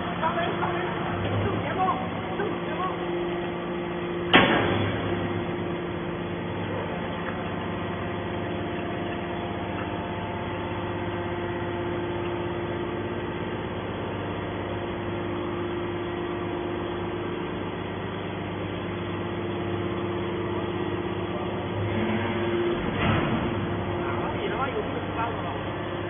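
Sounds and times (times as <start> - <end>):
hydraulic power unit humming: 0.0 - 26.0.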